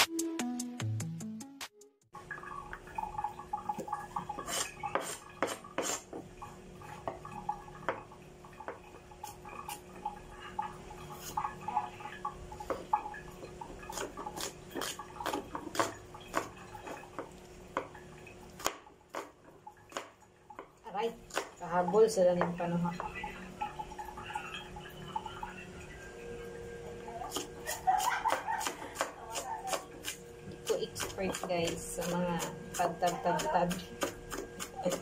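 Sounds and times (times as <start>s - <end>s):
faint steady hum: 2.2s - 35.0s.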